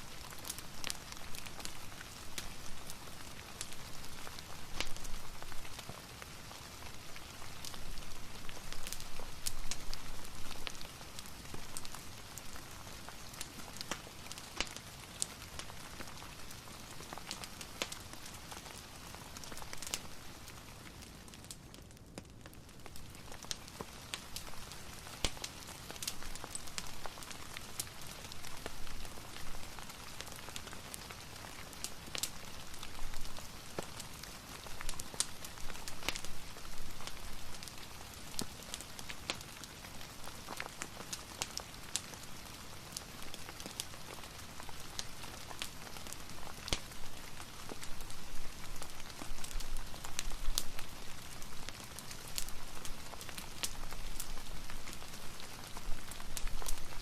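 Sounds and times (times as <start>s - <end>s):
fireplace crackling: 0.0s - 57.0s
soft rain: 0.0s - 57.0s.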